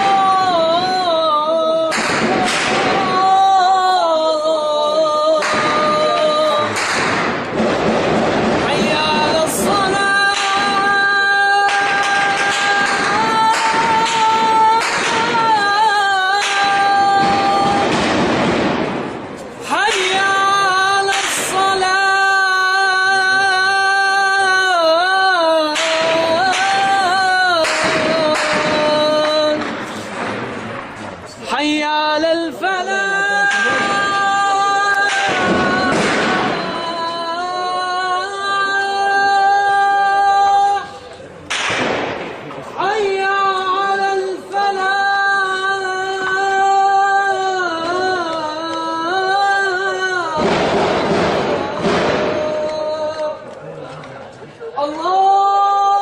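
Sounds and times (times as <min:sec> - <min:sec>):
man chanting call to prayer: 0:00.0 - 0:41.4, 0:42.5 - 0:56.0.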